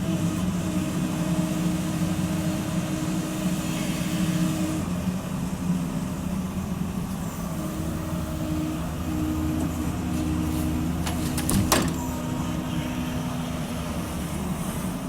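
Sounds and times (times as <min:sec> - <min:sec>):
diesel engine and hydraulics running: 0:00.0 - 0:15.0.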